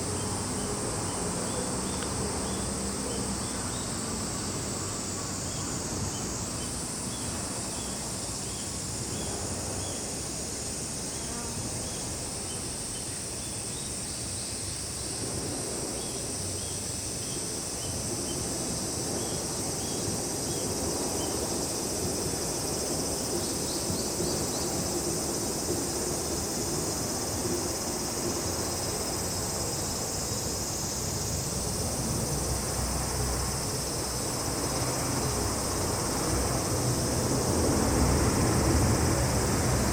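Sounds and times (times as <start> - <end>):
cicadas and crickets shrilling: 0.0 - 39.9.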